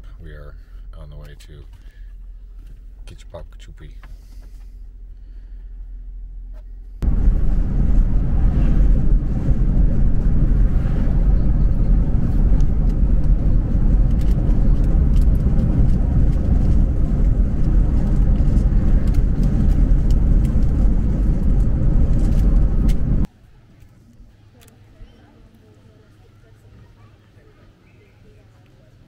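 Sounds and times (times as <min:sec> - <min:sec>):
car road and engine rumble: 0:00.0 - 0:23.3.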